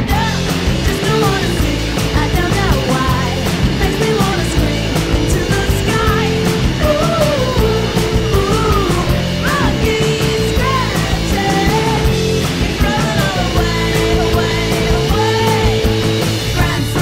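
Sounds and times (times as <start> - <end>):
rock song with electric guitars: 0.0 - 17.0.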